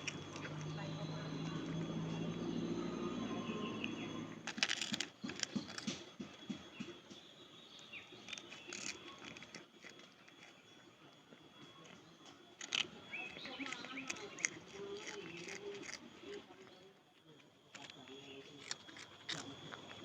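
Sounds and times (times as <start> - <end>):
cat crunching crackers: 0.0 - 7.0, 7.6 - 20.0.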